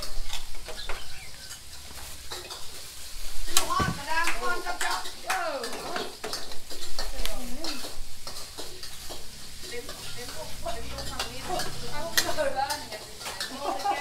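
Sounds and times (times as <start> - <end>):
food sizzling in hot oil: 0.0 - 14.0
metal spatula scraping wok: 0.0 - 14.0.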